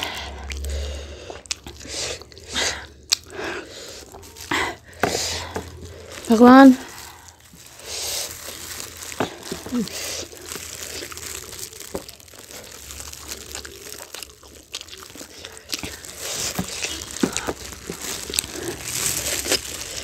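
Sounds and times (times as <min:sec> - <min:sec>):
chewing and crunching food: 0:00.0 - 0:20.0
plastic gloves crinkling: 0:01.6 - 0:20.0.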